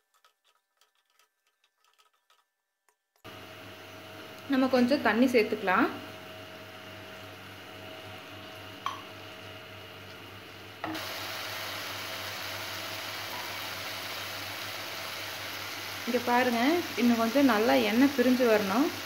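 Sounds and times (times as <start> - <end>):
masala sizzling in a pan: 3.3 - 19.0.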